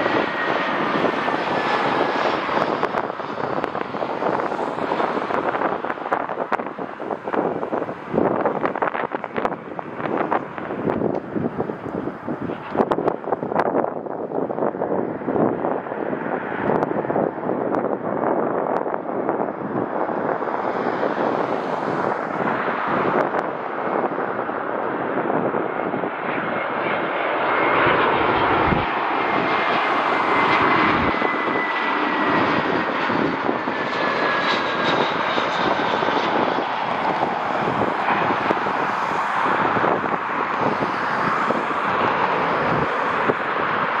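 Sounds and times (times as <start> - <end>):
airliner engine noise: 0.0 - 44.0.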